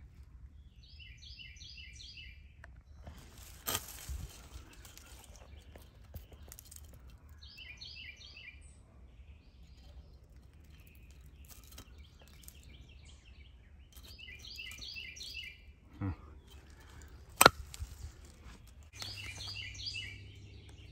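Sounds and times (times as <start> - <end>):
songbird chirping: 0.0 - 20.9.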